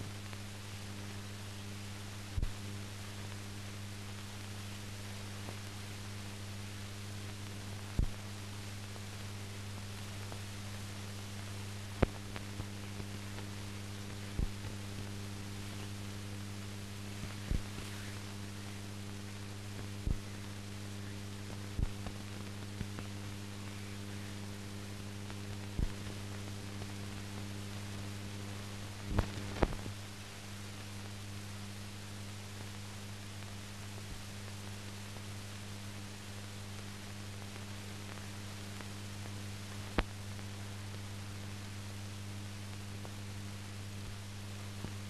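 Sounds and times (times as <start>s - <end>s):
constant hiss: 0.0s - 45.0s
electrical hum: 0.0s - 45.0s.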